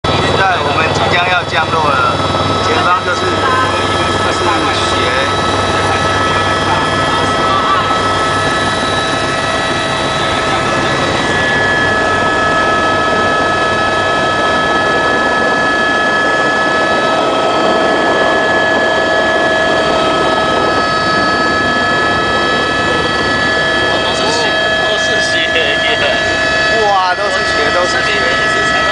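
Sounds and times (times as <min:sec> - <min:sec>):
helicopter engine and rotor: 0:00.0 - 0:28.9
turbine whine: 0:00.0 - 0:28.9.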